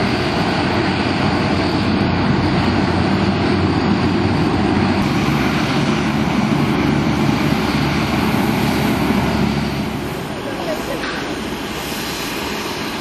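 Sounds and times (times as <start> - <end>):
turboprop engines running: 0.0 - 13.0.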